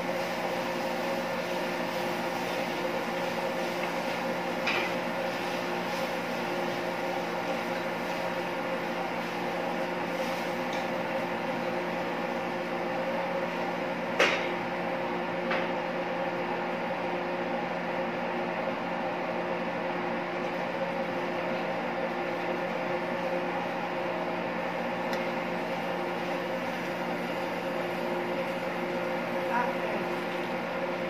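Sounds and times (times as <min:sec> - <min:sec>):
kitchen machine hum: 0:00.0 - 0:31.0.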